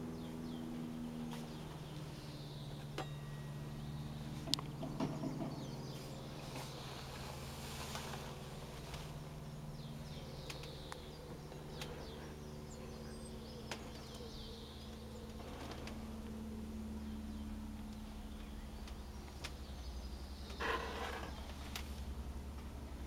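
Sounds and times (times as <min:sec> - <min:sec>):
birds chirping faintly: 0:00.0 - 0:23.0
distant propeller aircraft engine drone: 0:00.0 - 0:23.0.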